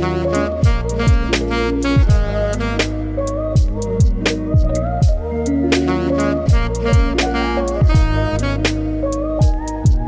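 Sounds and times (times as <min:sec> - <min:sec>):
steady drum beat: 0:00.0 - 0:03.0, 0:03.6 - 0:08.8, 0:09.4 - 0:10.0
instrumental melody: 0:00.0 - 0:10.0.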